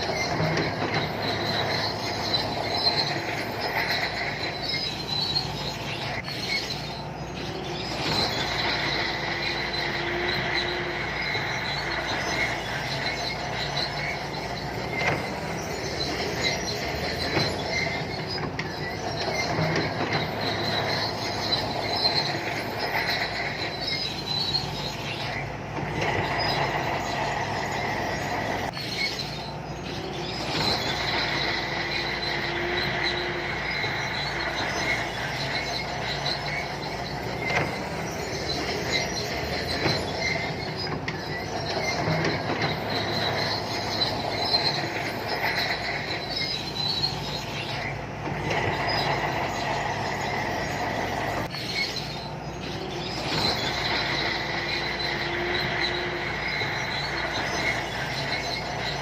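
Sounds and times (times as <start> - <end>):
bulldozer engine under load: 0.0 - 59.0
steel tracks squealing: 0.0 - 59.0.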